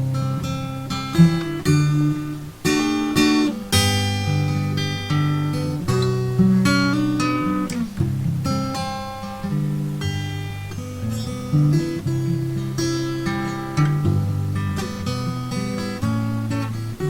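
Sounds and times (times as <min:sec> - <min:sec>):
acoustic guitar picked and strummed: 0:00.0 - 0:17.0.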